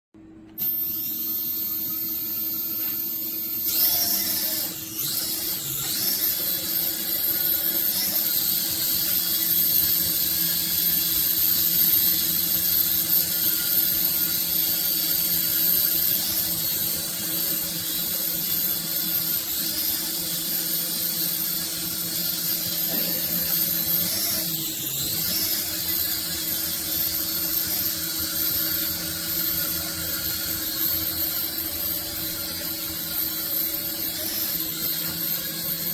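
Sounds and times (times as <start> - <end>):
toy helicopter rotor whirring: 0.6 - 35.9.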